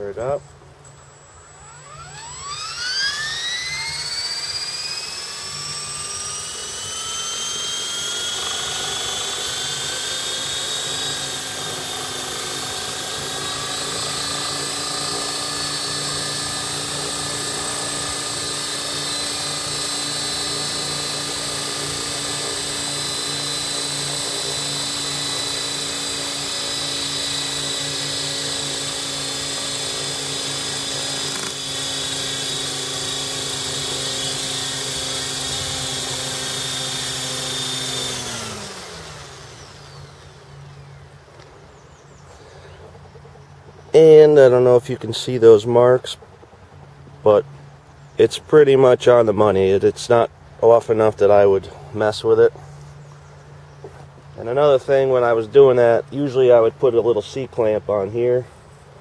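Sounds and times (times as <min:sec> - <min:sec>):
rc helicopter motor whine: 0:00.0 - 0:59.0.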